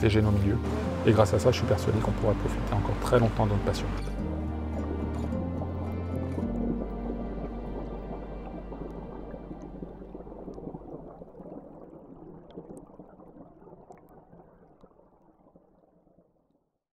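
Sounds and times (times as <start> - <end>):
river water gurgling over stones: 0.0 - 16.4.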